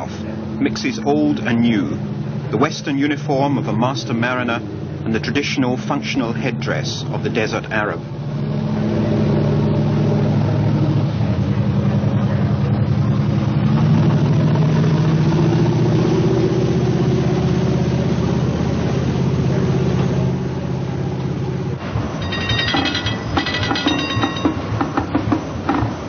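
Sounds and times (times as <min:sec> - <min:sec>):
large engine droning: 0:00.0 - 0:26.0.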